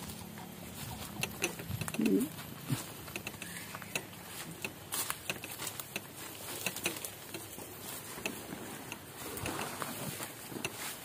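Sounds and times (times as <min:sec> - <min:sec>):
crackles and light thuds: 0:00.0 - 0:11.0
footsteps through grass and leaves: 0:00.0 - 0:11.0.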